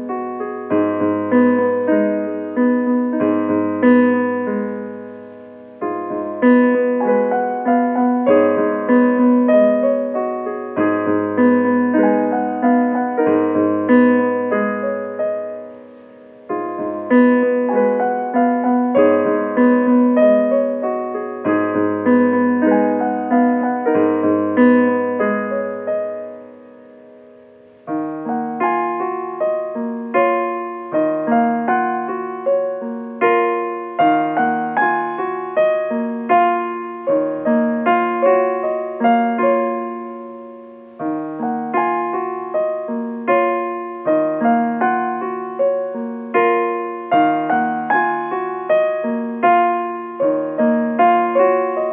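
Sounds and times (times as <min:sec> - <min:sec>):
solo piano playing: 0:00.0 - 0:51.9.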